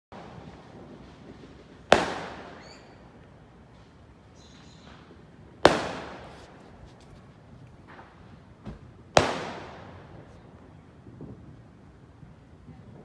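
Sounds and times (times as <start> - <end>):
fireworks bangs echoing: 0.1 - 11.8.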